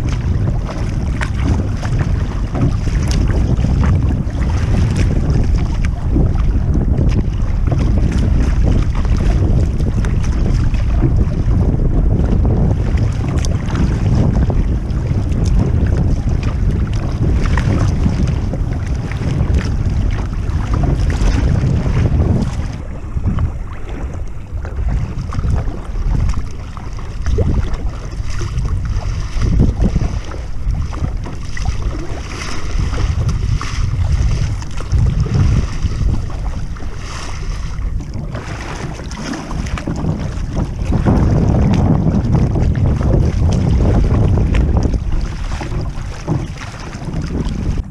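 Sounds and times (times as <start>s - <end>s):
water splashing from paddling: 0.0s - 47.9s
wind buffeting microphone: 0.0s - 47.9s.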